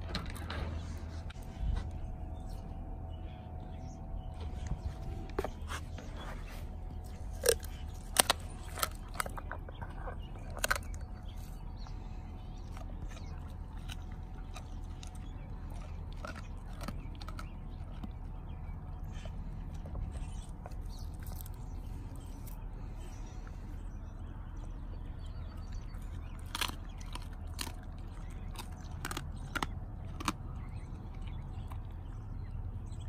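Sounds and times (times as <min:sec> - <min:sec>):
dog crunching bones: 0:04.0 - 0:33.0.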